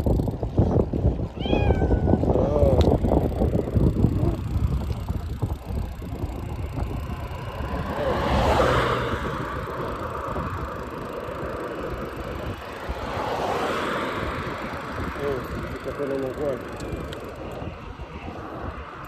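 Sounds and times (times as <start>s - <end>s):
passing motor vehicle: 0.0s - 19.0s
road rumble: 0.0s - 19.0s
wind on microphone: 0.0s - 19.0s.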